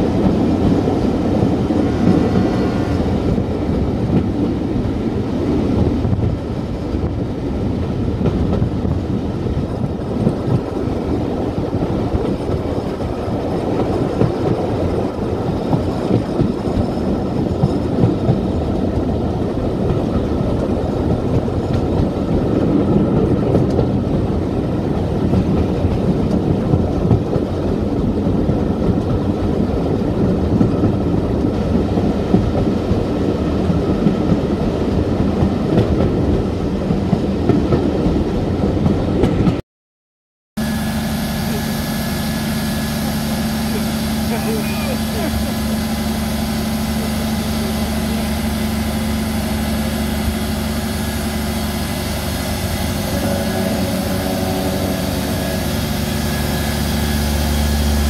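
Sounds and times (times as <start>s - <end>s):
train wheels rumbling on rails: 0.0s - 39.6s, 40.6s - 58.0s.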